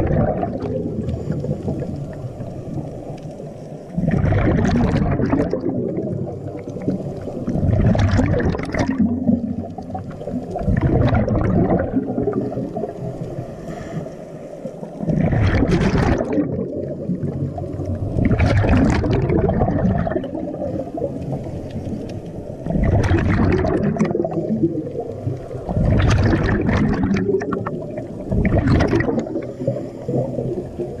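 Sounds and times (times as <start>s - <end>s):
exhaled bubbles gurgling underwater: 0.0s - 31.0s
low rumble of water: 0.0s - 31.0s.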